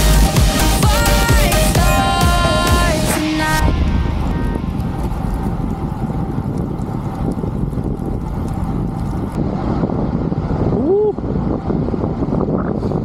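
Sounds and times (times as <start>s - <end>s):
wind rushing over microphone: 2.0s - 13.0s.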